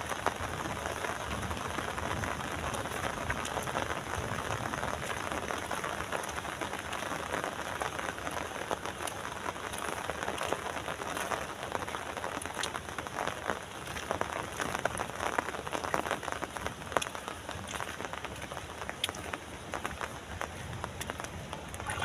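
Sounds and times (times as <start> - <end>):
raindrops ticking on a surface: 0.0 - 22.0.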